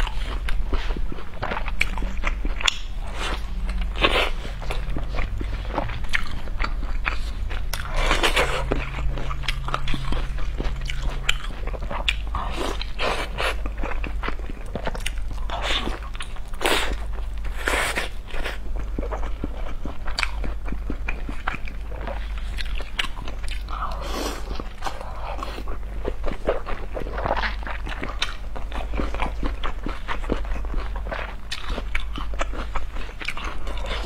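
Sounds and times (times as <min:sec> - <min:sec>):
chewing: 0:00.0 - 0:34.0.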